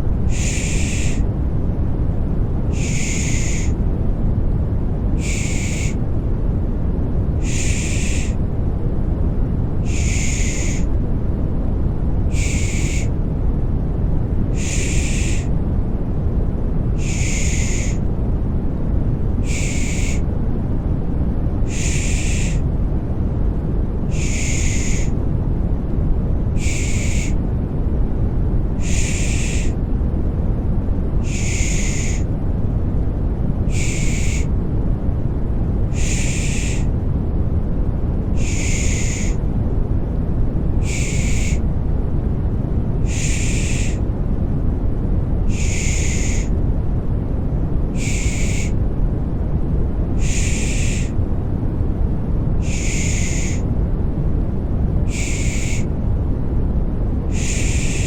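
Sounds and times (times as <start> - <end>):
low rumbling noise: 0.0 - 58.0.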